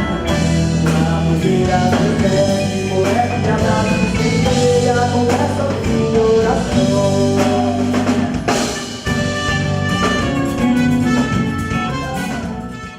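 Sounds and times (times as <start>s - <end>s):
band playing: 0.0s - 12.9s.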